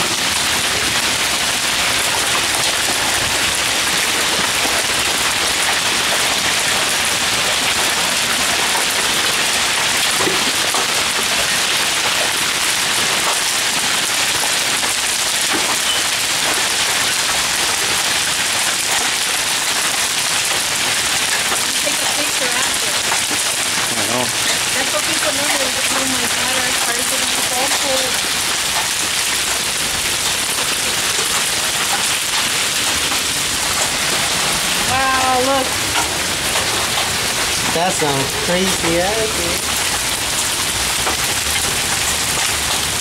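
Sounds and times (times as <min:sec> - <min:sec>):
hail and heavy rain pelting: 0:00.0 - 0:43.0.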